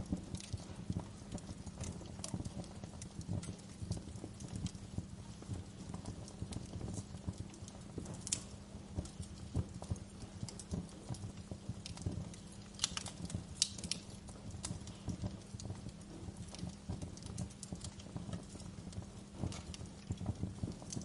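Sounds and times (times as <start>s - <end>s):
low steady rumble: 0.0s - 21.0s
wood fire crackling: 0.0s - 21.0s.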